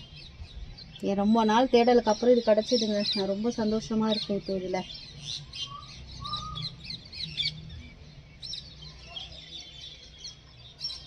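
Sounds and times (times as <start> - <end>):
birds chirping: 0.0 - 11.0
faint low bird calls: 0.0 - 11.0.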